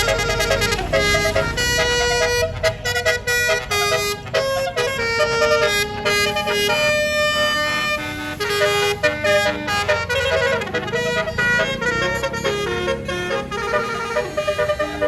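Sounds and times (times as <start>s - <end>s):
low engine rumble: 0.0s - 15.0s
multi-tone bus horns playing tune: 0.0s - 15.0s.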